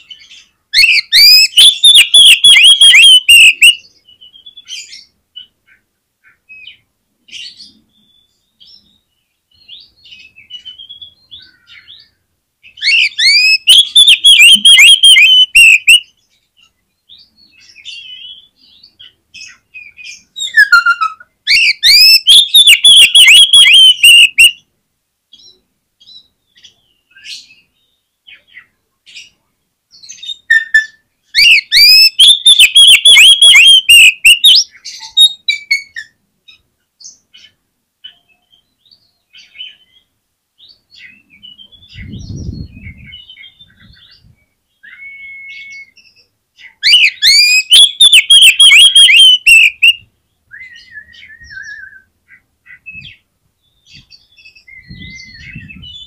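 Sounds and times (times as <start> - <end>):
songbird singing sweeping notes: 0.0 - 5.1, 6.6 - 24.6, 30.0 - 36.0, 38.4 - 52.1, 52.9 - 56.0
soft bird chirps: 0.0 - 24.6, 25.3 - 56.0.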